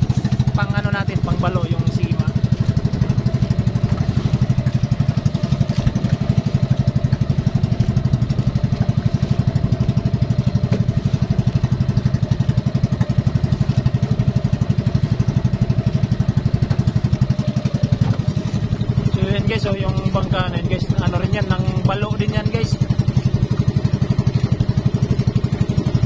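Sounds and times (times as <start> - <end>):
small boat engine running: 0.0 - 26.0.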